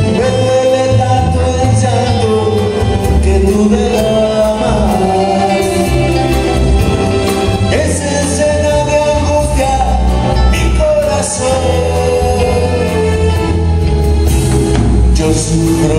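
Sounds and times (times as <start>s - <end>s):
man singing: 0.0s - 14.3s, 15.0s - 15.9s
bass guitar: 0.0s - 15.9s
electric guitar: 0.0s - 15.9s.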